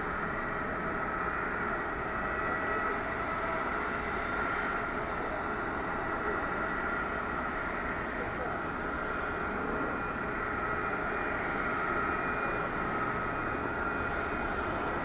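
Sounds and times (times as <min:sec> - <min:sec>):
jet engines whining and rumbling: 0:00.0 - 0:15.0.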